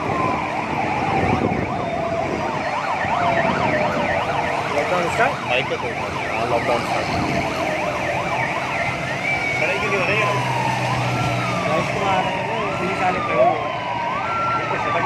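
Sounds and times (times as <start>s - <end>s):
siren wail gliding down: 0.0s - 15.0s
sirens yelping: 0.0s - 15.0s.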